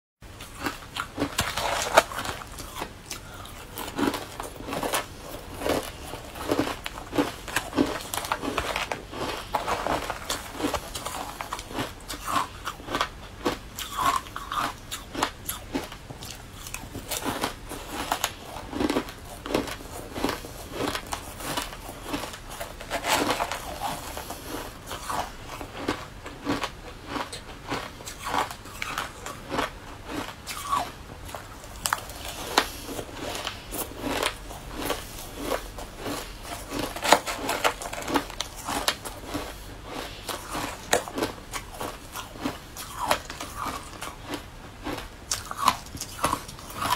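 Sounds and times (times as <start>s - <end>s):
person chewing crunchy food: 0.2s - 46.9s.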